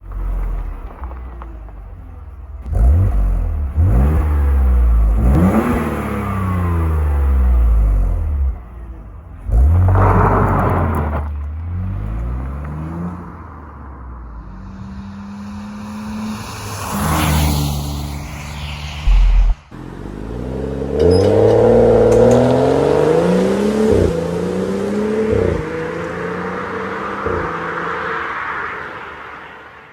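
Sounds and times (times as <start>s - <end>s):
car engine revving: 2.0s - 29.2s.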